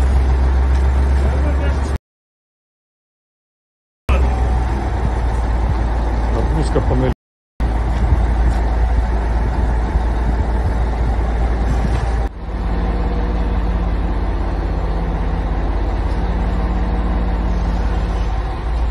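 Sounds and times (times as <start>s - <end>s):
engine-like hum: 0.0s - 2.0s, 4.1s - 18.9s
heavy low machinery rumble: 0.0s - 2.0s, 4.1s - 18.9s.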